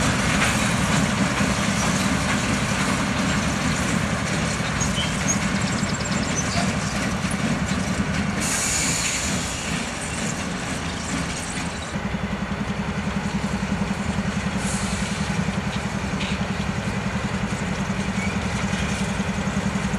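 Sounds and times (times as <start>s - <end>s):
diesel locomotive engines running: 0.0s - 19.9s.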